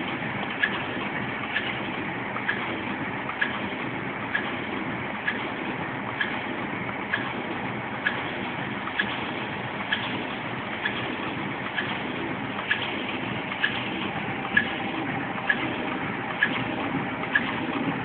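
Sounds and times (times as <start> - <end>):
tissue machine running: 0.0 - 18.0.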